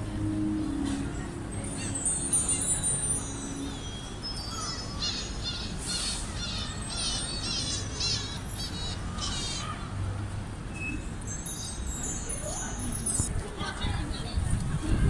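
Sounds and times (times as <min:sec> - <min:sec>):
city and crowd noise: 0:00.0 - 0:15.0.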